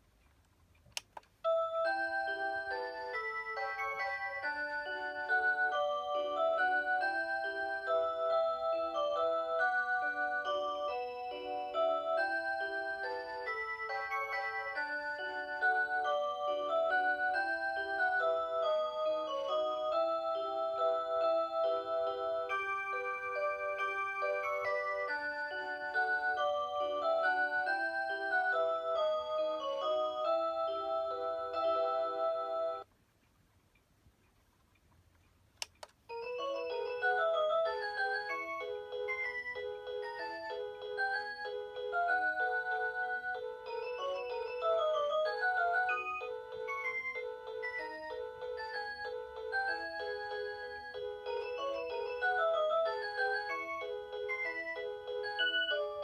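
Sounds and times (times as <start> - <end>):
alarm clock electronic tune: 1.5 - 32.9, 36.1 - 56.0.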